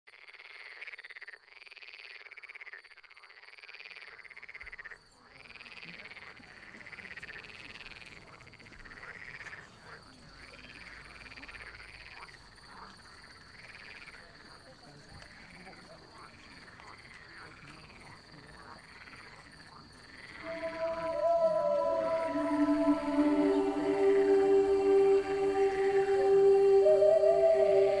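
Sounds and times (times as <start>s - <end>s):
frogs croaking: 0.2s - 28.0s.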